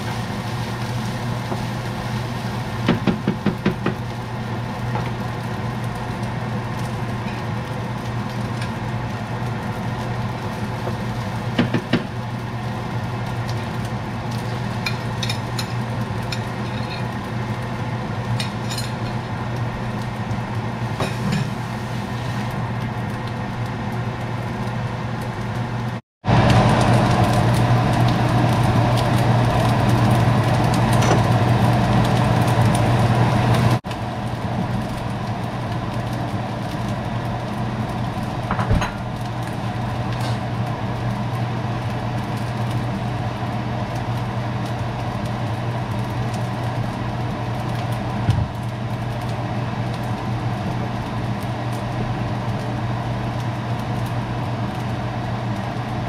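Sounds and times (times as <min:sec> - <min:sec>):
household appliance hum: 0:00.0 - 0:56.0.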